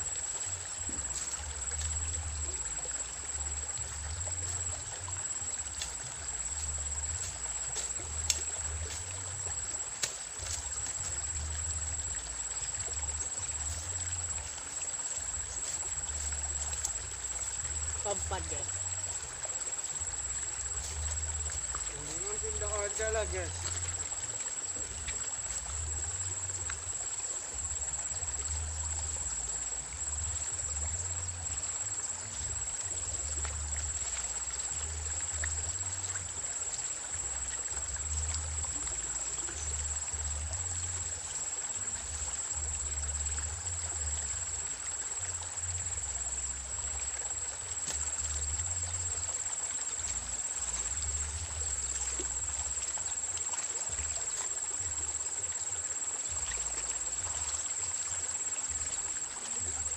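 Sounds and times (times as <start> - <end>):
river water hiss: 0.0 - 59.9.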